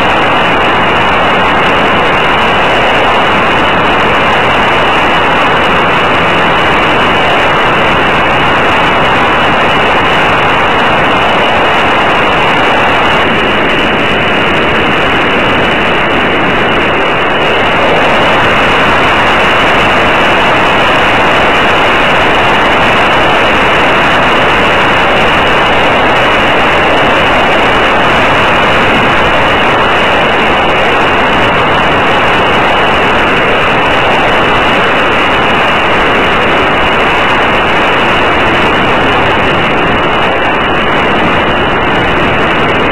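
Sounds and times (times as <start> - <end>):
model airplane engine: 0.0 - 42.9
rushing air: 0.0 - 42.9.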